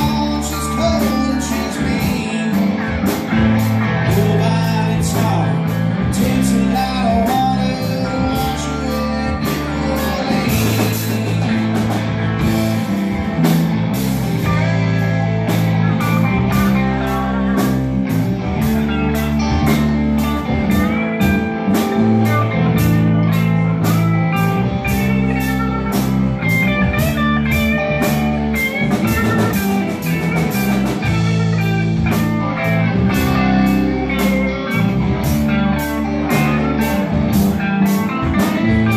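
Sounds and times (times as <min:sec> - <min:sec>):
drum kit beat: 0:00.0 - 0:38.9
electric bass: 0:00.0 - 0:38.9
electric guitars: 0:00.0 - 0:38.9.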